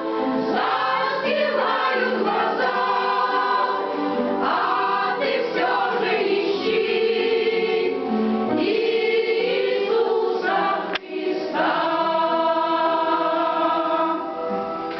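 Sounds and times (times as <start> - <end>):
choir singing a hymn: 0.0 - 14.8.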